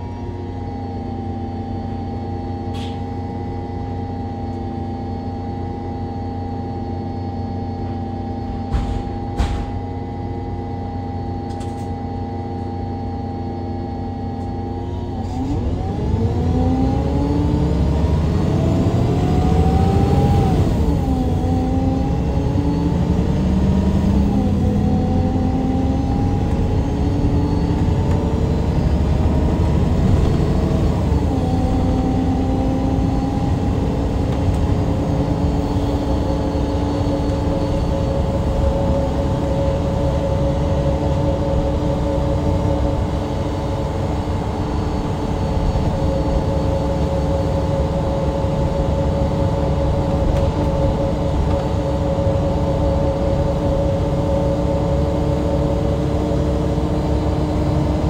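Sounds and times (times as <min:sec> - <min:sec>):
bus engine accelerating: 0:00.0 - 0:58.0.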